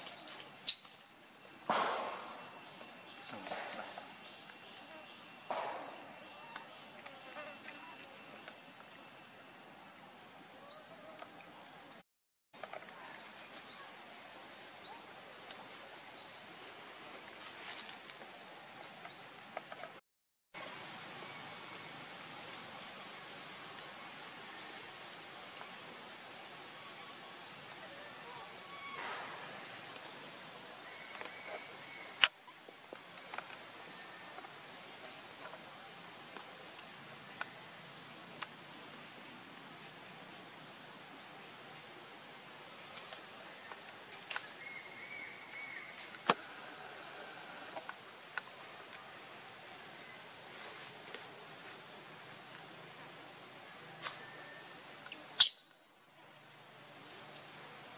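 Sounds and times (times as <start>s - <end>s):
insects droning high-pitched: 0.0s - 12.0s, 12.6s - 20.0s, 20.6s - 57.9s.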